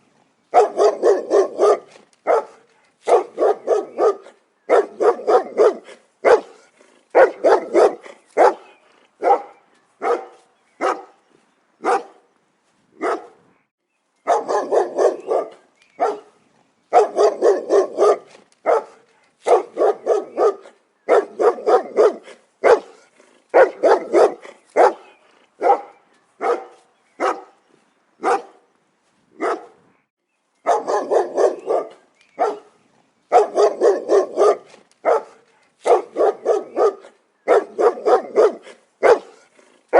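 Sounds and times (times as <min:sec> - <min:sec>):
dog barking: 0:00.5 - 0:11.2, 0:11.8 - 0:12.2, 0:13.0 - 0:13.4, 0:14.2 - 0:27.6, 0:28.2 - 0:28.6, 0:29.4 - 0:29.8, 0:30.6 - 0:39.7.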